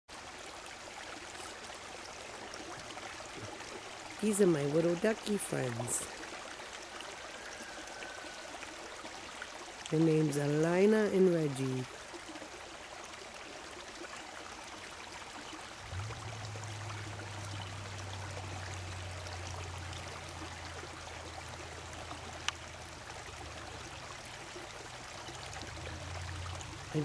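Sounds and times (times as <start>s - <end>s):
stream running over rocks: 0.1s - 27.0s.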